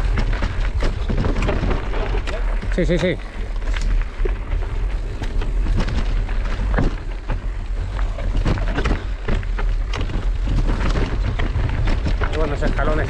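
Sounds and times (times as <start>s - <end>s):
bike rattling: 0.0s - 13.0s
bike tyres crunching on stones: 0.0s - 13.0s.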